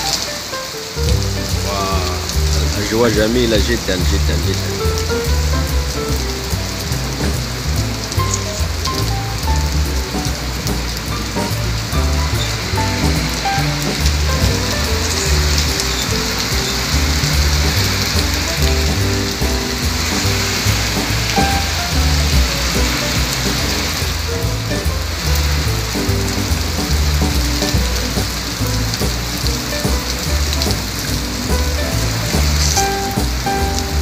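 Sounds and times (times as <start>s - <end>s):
rain on wet street: 0.0s - 34.0s
background music with bass: 0.8s - 34.0s.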